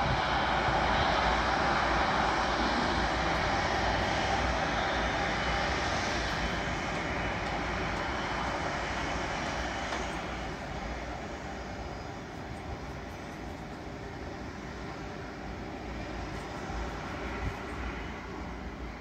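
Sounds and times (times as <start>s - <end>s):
jet engines taxiing: 0.0s - 19.0s.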